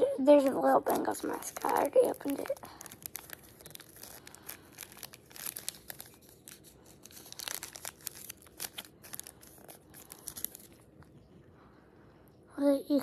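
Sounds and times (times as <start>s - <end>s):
paper wrapper crinkling: 0.0s - 11.1s.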